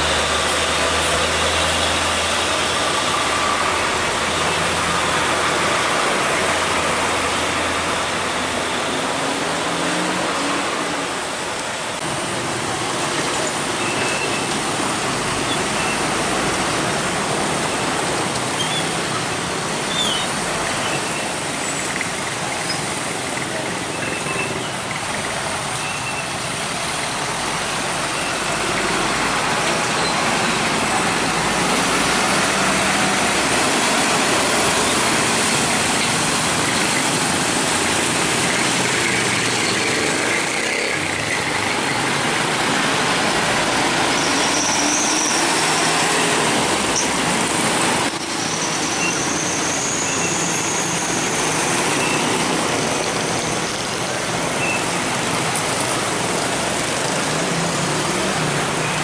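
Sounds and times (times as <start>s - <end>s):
heavy road traffic: 0.0s - 59.0s.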